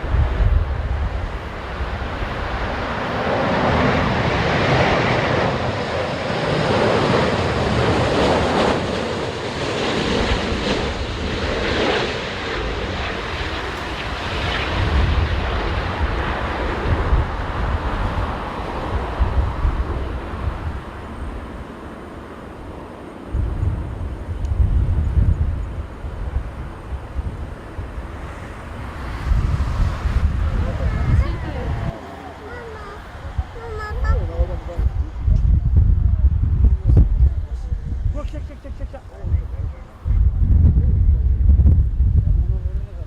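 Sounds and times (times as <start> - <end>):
jet engines rushing: 0.0 - 43.0
wind buffeting microphone: 0.0 - 43.0.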